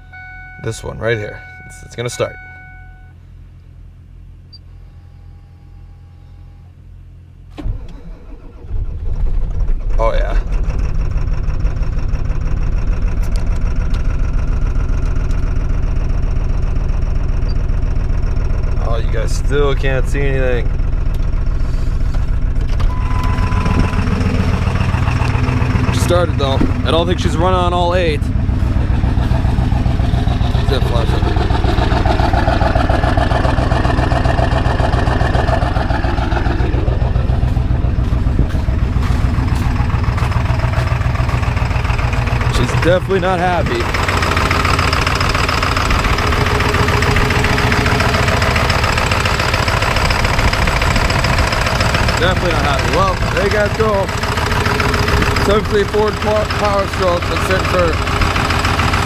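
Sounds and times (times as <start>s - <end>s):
diesel engine running rough: 3.8s - 59.0s.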